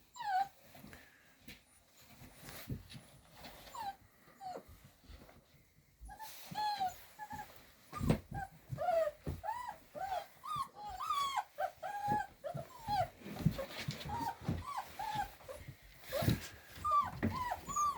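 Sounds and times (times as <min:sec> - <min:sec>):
puppies whimpering and whining: 0:00.0 - 0:17.9.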